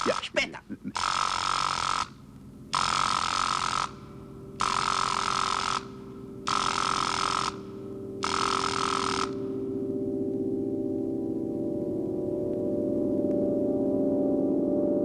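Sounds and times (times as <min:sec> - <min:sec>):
electric alarm ringing: 0:00.0 - 0:12.4
steady low tone: 0:02.1 - 0:15.0.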